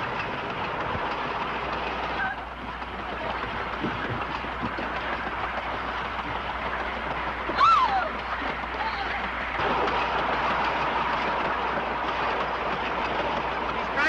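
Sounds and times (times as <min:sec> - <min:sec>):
train coach rumbling on track: 0:00.0 - 0:14.0.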